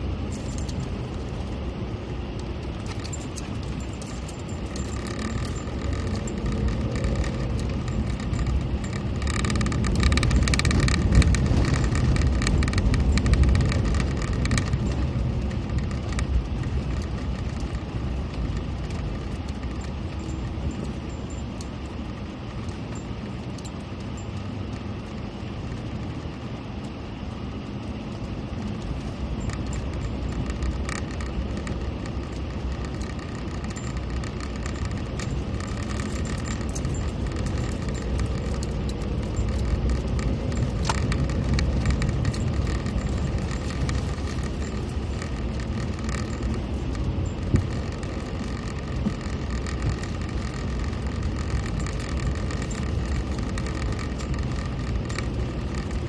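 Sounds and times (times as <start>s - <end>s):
small rattles and clicks: 0.0s - 56.0s
vehicle engine and road noise: 0.0s - 56.0s.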